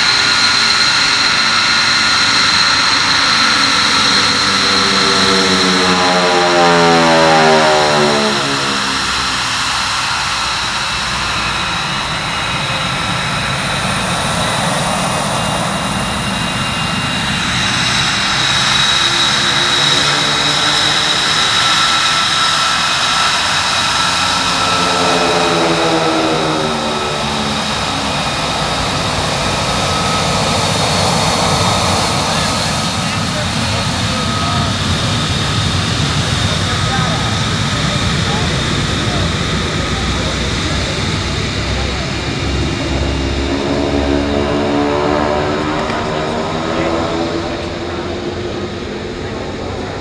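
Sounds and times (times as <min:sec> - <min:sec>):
jet engine with turbine whine: 0:00.0 - 0:50.0.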